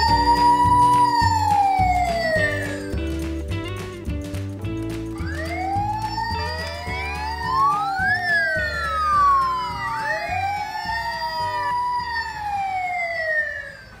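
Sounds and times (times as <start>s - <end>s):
wailing sirens: 0.0s - 3.2s, 5.2s - 14.0s.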